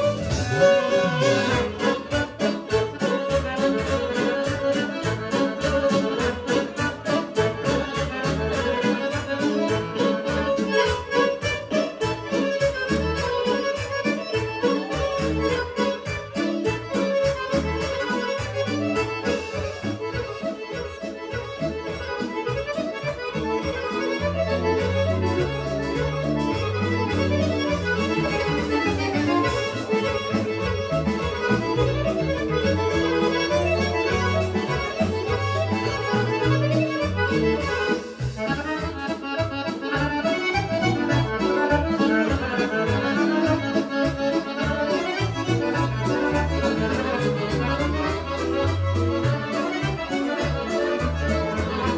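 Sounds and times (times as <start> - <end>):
fast accordion dance music: 0.0 - 51.9
steady bass beat: 0.0 - 51.9.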